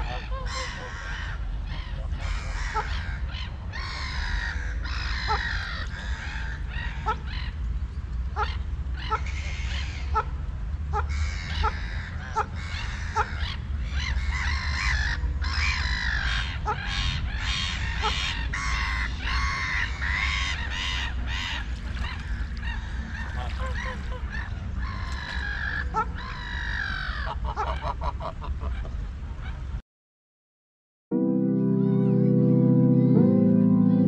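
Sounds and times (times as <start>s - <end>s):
geese honking and gabbling: 0.0s - 7.6s, 8.3s - 29.0s.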